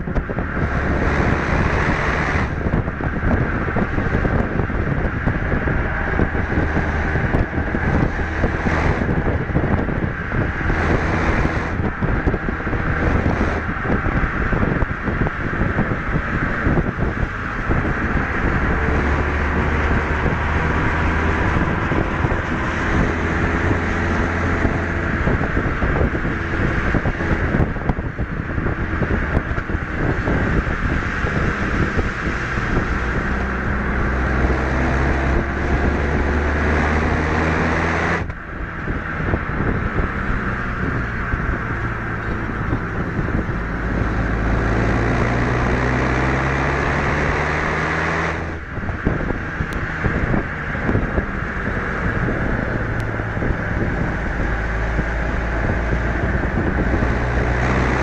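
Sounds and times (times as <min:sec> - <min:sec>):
car engine revving: 0:00.0 - 0:58.0
wind buffeting on microphone: 0:00.0 - 0:58.0.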